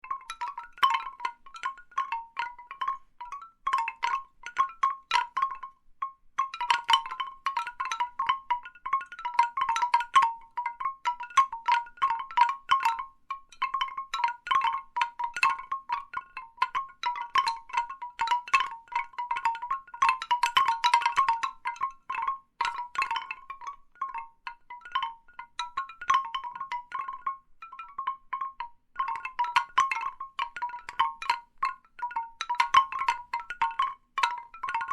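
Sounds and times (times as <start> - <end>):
bamboo wind chimes clacking: 0.0 - 34.9.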